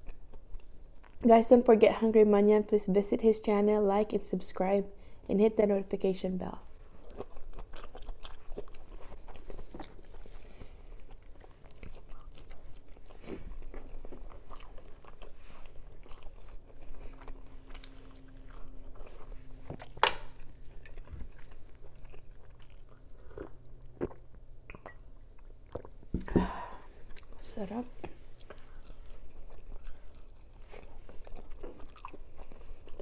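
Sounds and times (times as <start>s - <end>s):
person chewing food: 0.0s - 1.2s, 6.8s - 27.4s, 28.0s - 33.0s.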